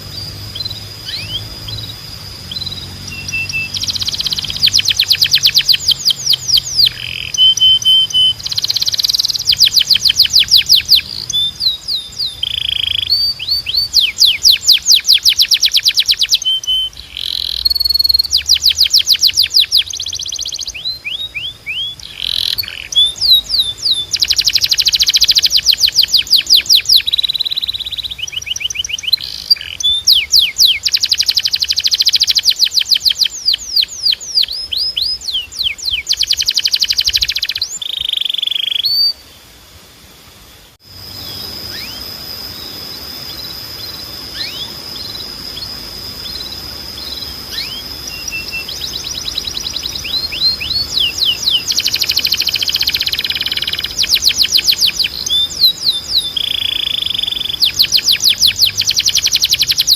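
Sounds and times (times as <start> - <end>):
canary singing: 0.0 - 39.4, 40.9 - 59.9.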